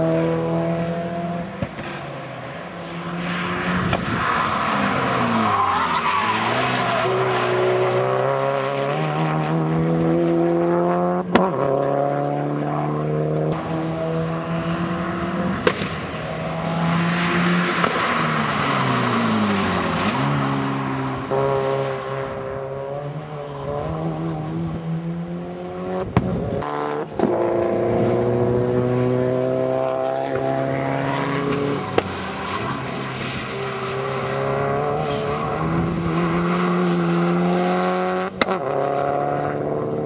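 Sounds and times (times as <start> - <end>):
race car engines passing: 0.0 - 40.0.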